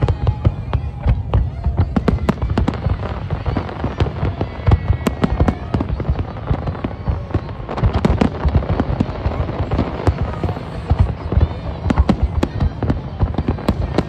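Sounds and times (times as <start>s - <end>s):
crackling rumble of fireworks: 0.0s - 14.0s.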